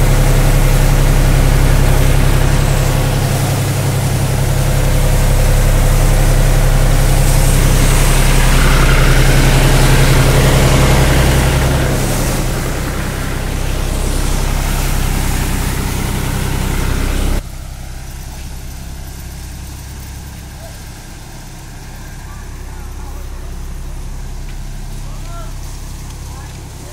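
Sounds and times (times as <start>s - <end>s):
distant machine hum: 0.0s - 26.9s
threshing drum rushing: 0.0s - 26.9s
tractor engine hum: 0.0s - 26.9s.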